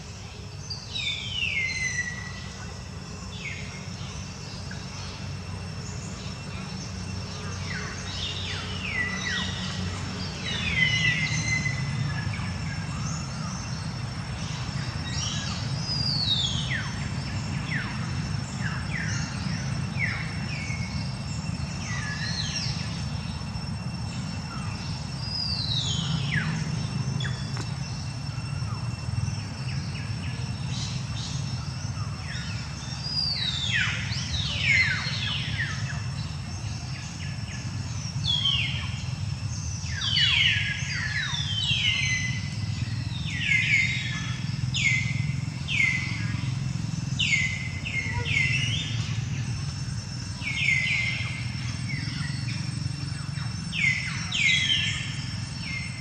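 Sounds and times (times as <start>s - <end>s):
birds chirping: 0.0s - 56.0s
low outdoor background rumble: 0.0s - 56.0s.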